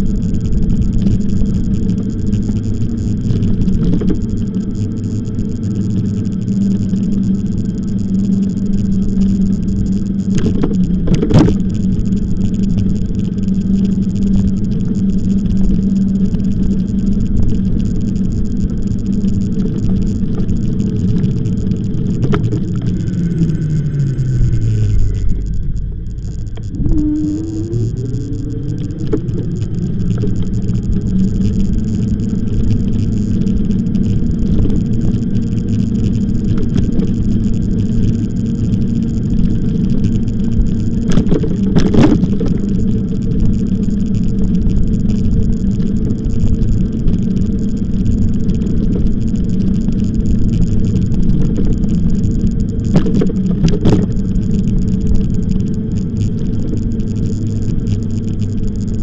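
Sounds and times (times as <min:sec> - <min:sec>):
electric bike motor hum: 0:00.0 - 0:59.0
wind and road noise: 0:00.0 - 0:59.0.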